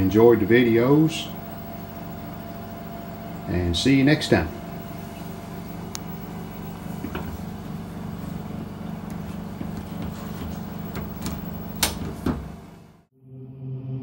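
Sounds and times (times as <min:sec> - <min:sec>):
low electrical hum: 0:00.0 - 0:13.1.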